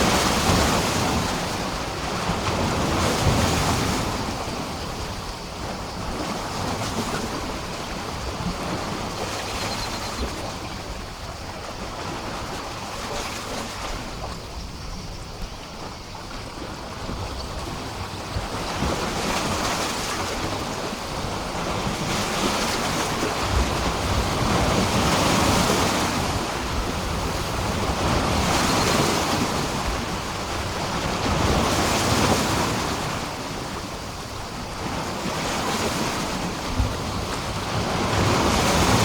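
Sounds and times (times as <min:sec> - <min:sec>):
waves breaking against pier: 0:00.0 - 0:14.5, 0:15.8 - 0:39.0.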